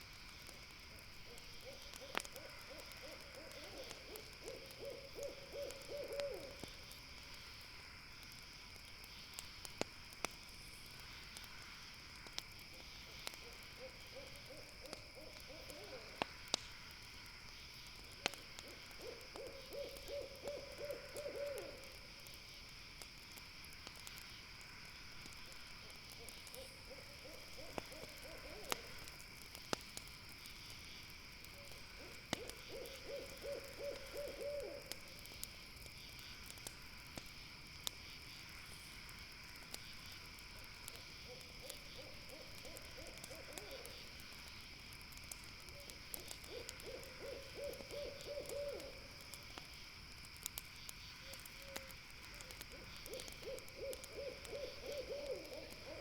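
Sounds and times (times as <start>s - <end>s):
campfire crackling pops: 0.0s - 56.0s
night insects chirring: 0.0s - 56.0s.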